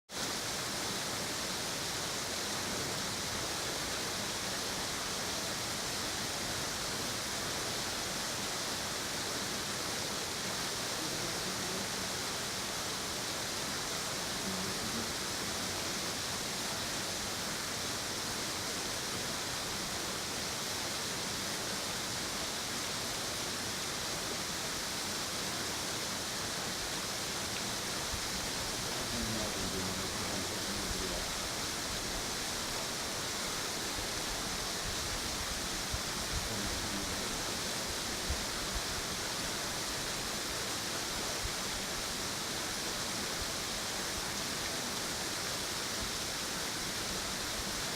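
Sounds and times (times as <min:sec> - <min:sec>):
waterfall rushing: 0:00.2 - 0:47.9.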